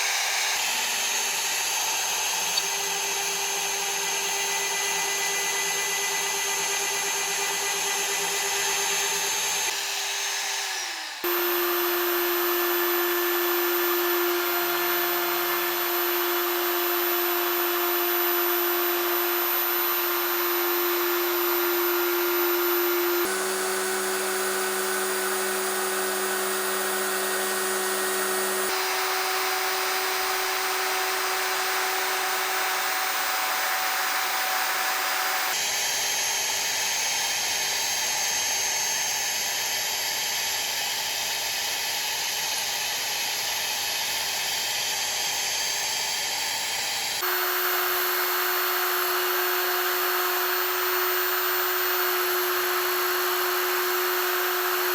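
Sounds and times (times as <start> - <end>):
router spindle whine: 0.0 - 54.9.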